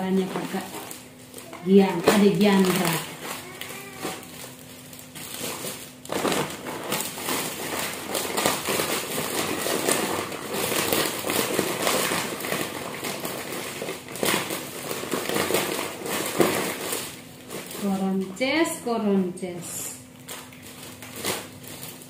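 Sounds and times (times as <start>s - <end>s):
plastic bags crinkling: 0.0s - 18.9s, 19.9s - 22.0s.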